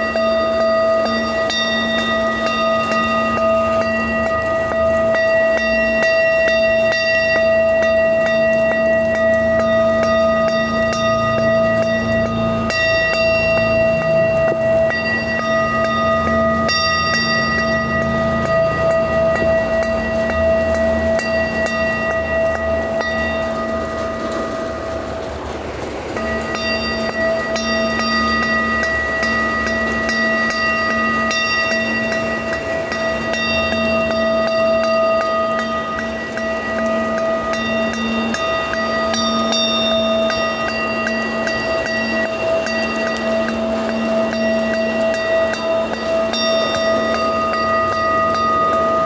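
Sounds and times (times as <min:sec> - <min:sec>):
high chimes struck: 0:00.0 - 0:49.0
rain-like hiss: 0:00.0 - 0:49.0.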